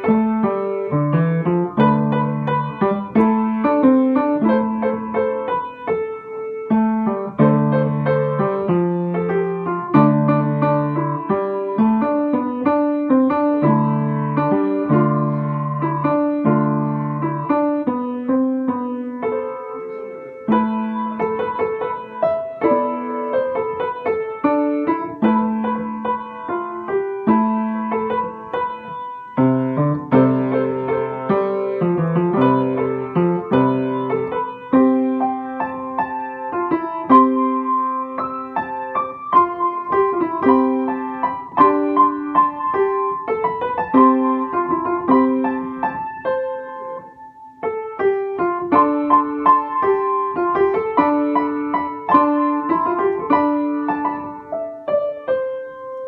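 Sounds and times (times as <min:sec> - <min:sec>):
slow solo piano: 0:00.0 - 0:56.0.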